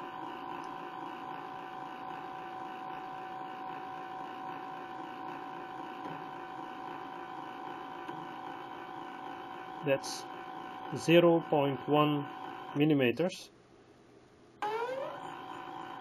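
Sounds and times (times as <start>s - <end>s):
stepper motor whine: 0.0s - 12.8s, 14.6s - 16.0s.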